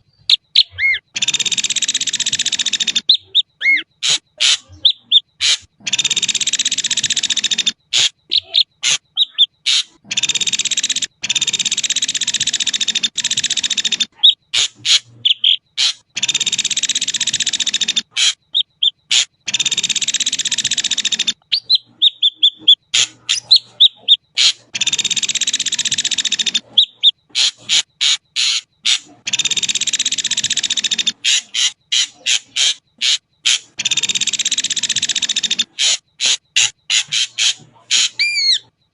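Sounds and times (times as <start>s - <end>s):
bird calling harshly: 0.0s - 38.7s.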